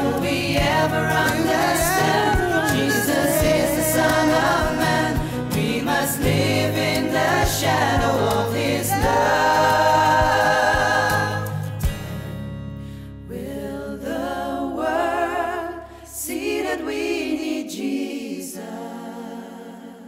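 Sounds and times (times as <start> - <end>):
voices singing worship song: 0.0 - 12.3, 13.3 - 20.0.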